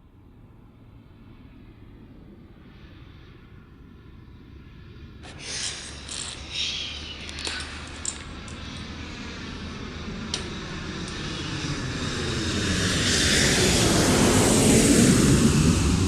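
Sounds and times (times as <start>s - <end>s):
airplane engine noise: 0.0s - 16.0s.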